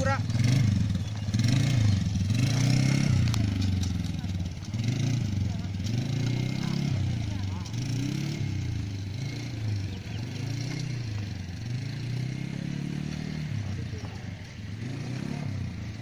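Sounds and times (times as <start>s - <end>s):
quad bike engine revving: 0.0s - 16.0s.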